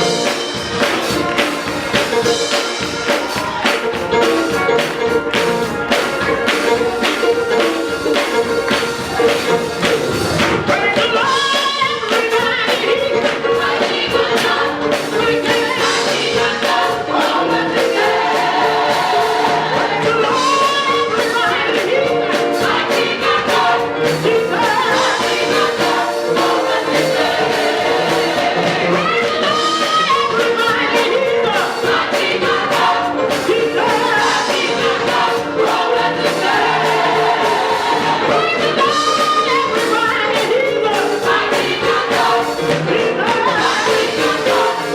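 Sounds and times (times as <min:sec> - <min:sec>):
gospel choir singing with band: 0:00.0 - 0:44.9.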